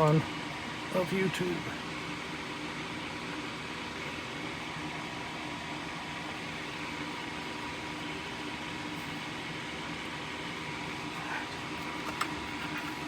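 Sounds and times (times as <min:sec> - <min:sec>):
faint constant tones: 0:00.0 - 0:13.0
fan hum and hiss: 0:00.0 - 0:13.0.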